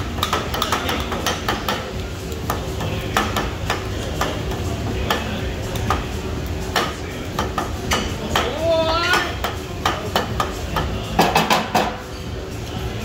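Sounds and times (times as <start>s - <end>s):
metal spatulas clacking on griddle: 0.0s - 12.0s.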